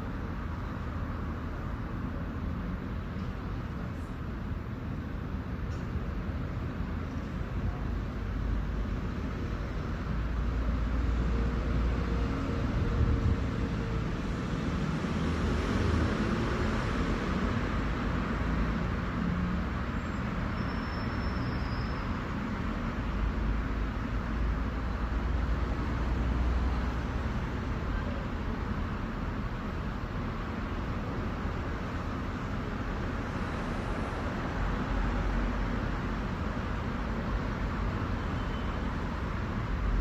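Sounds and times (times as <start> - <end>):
passing traffic noise: 0.0 - 40.0.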